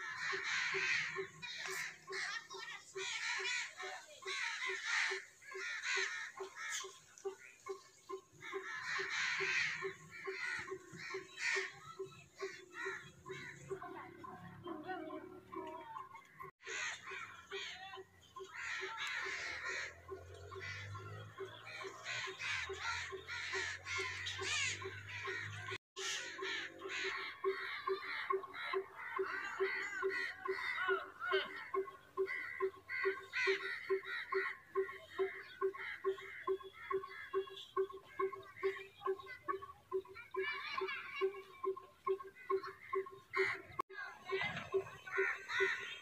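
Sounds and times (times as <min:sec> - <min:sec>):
crows cawing: 0:00.0 - 0:14.0, 0:16.6 - 0:40.4, 0:44.4 - 0:46.0.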